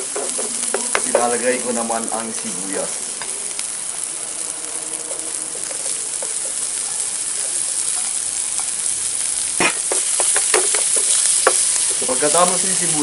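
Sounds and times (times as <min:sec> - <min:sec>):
garlic sizzling in a frying pan: 0:00.0 - 0:13.0.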